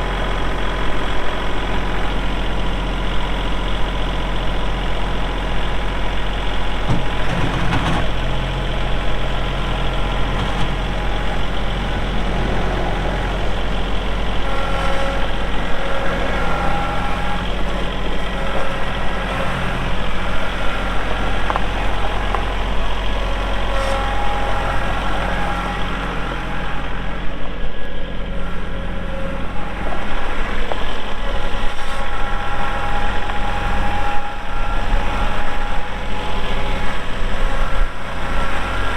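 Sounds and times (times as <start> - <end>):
hydraulic whine: 0.0 - 38.9
tractor diesel engine running: 0.0 - 38.9.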